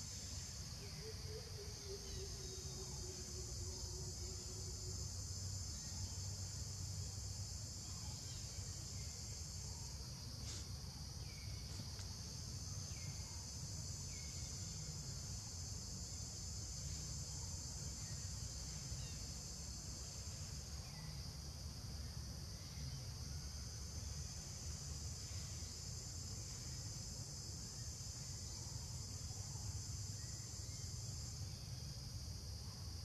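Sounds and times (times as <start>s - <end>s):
insect chorus buzzing: 0.0s - 33.0s.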